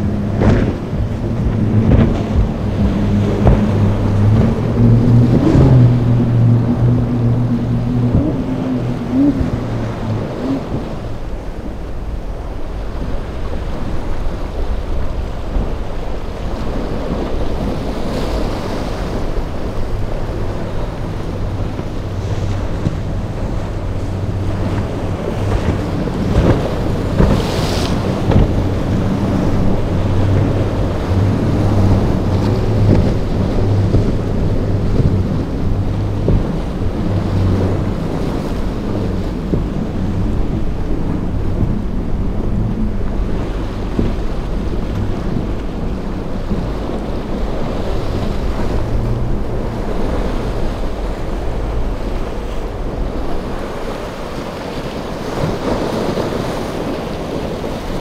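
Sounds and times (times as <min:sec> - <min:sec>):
outboard boat engines droning: 0:00.0 - 0:58.0
waves breaking: 0:00.0 - 0:58.0
wind buffeting microphone: 0:00.0 - 0:58.0.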